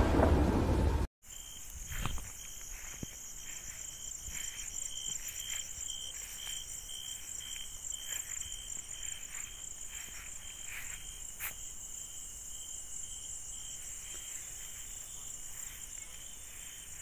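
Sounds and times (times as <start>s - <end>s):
crickets chirring: 1.2s - 17.0s.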